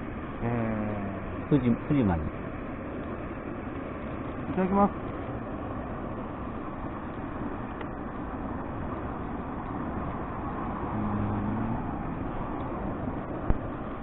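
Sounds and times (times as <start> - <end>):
low engine hum: 0.0 - 14.0
road traffic: 0.0 - 14.0.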